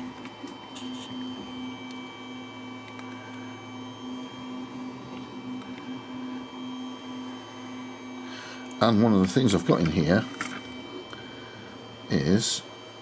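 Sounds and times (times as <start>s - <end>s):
high-pitched whines: 0.0s - 13.0s
pulsing machine hum: 0.0s - 13.0s.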